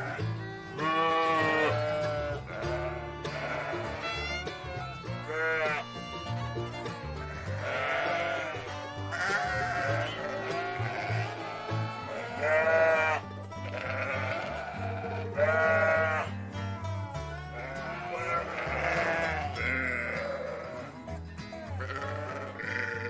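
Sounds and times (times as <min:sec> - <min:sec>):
background music: 0:00.0 - 0:23.0
sheep bleating: 0:00.0 - 0:23.0.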